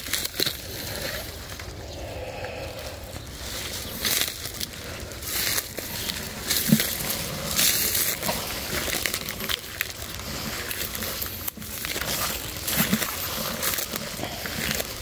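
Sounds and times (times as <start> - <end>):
footsteps through dry leaves: 0.0 - 15.0.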